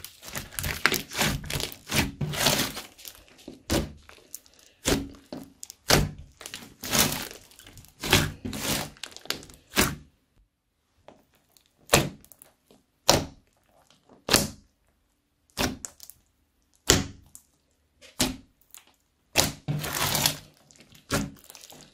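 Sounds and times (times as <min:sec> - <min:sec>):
slime squishing: 0:00.0 - 0:10.2, 0:11.2 - 0:21.9.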